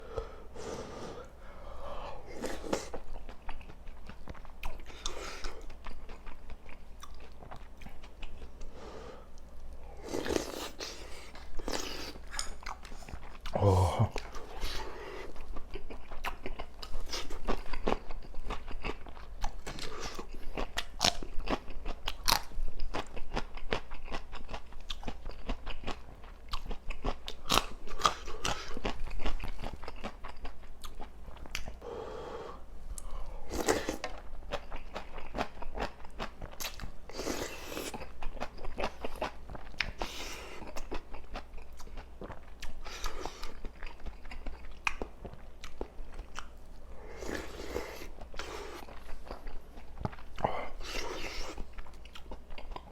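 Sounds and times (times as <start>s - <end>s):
chewing food: 2.4s - 8.7s, 9.4s - 31.8s, 32.9s - 52.9s.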